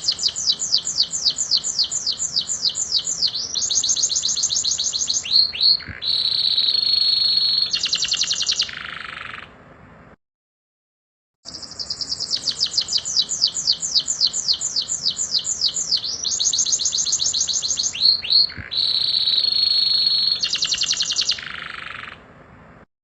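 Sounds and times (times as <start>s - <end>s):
canary singing: 0.0s - 9.6s, 11.5s - 22.3s.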